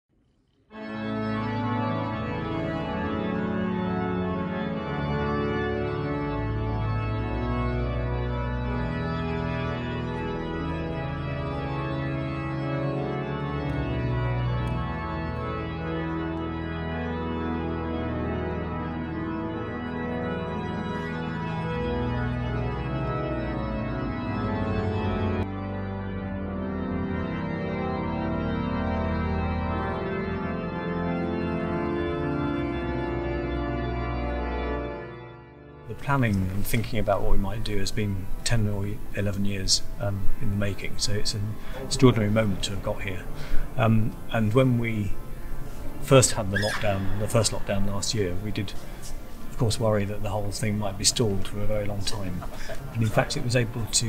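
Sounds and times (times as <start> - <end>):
pipe organ chords: 0.4 - 54.0.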